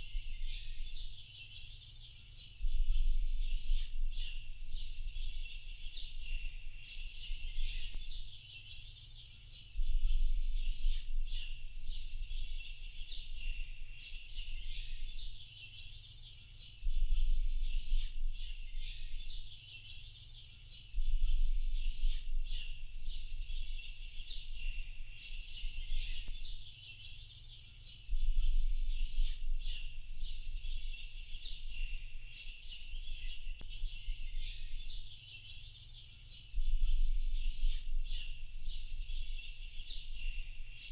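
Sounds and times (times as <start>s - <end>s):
songbirds chirping in chorus: 0.0s - 40.9s.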